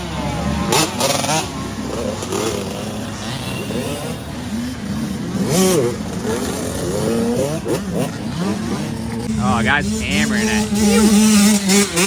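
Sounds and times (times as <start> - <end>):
off-road motorcycles revving: 0.0 - 12.0.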